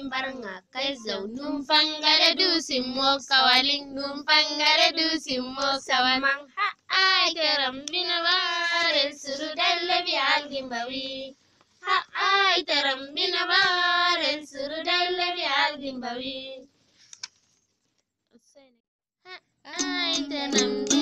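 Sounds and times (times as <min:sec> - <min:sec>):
child singing: 0:00.0 - 0:16.7, 0:19.3 - 0:21.0.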